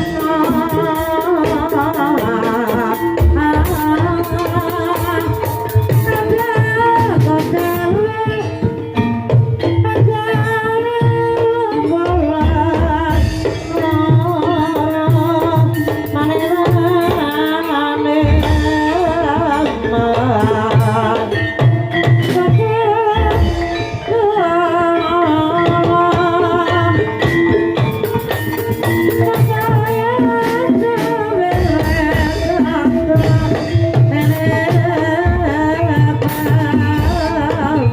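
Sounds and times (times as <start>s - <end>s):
hand drum strokes: 0.0s - 37.9s.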